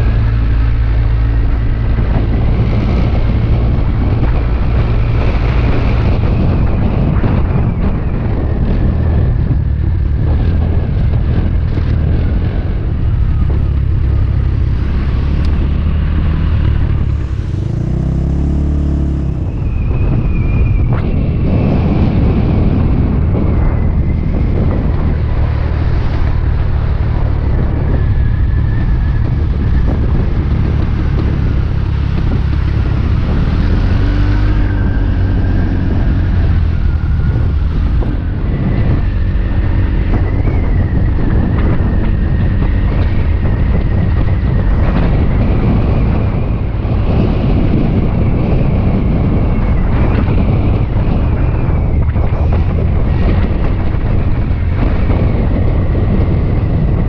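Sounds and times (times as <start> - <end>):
scooter engine rumble: 0.0 - 57.0
wind buffeting microphone: 0.0 - 57.0.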